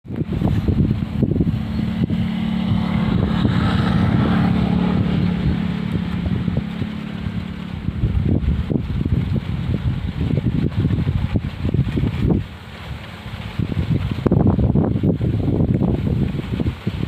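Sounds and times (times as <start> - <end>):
engine hum: 0.0 - 17.0
wind buffeting microphone: 0.0 - 17.0.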